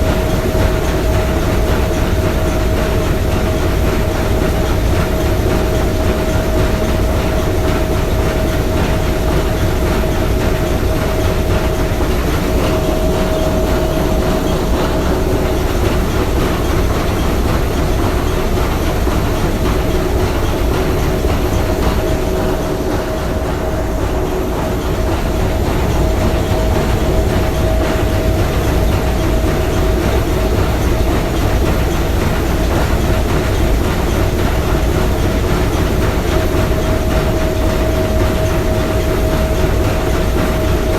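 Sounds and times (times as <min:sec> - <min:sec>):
steam engine clattering: 0:00.0 - 0:40.9.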